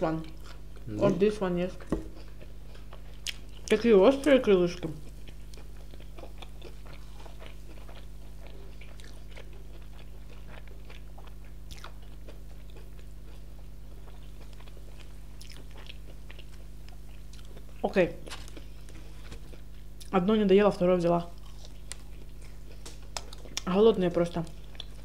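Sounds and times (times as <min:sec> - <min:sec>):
low electrical hum: 0:00.0 - 0:25.0
chewing crispy fried chicken: 0:00.1 - 0:01.2, 0:01.8 - 0:20.3, 0:21.2 - 0:25.0.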